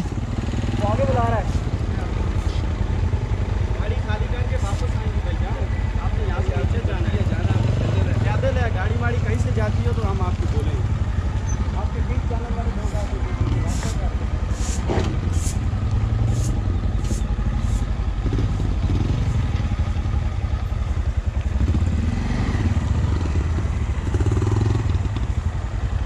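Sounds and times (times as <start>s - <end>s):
motorcycle engine low rumble: 0.0s - 26.0s.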